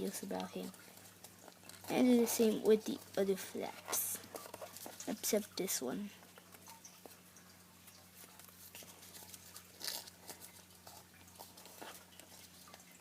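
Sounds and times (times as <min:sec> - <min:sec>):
paper rustling and crinkling: 0:00.0 - 0:05.6, 0:08.1 - 0:13.0.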